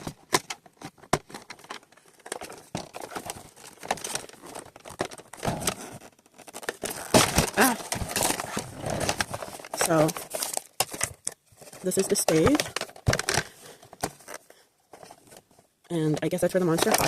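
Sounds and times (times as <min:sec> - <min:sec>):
plastic pieces clicking: 0:00.0 - 0:14.4
toy packaging crinkling: 0:00.0 - 0:17.0.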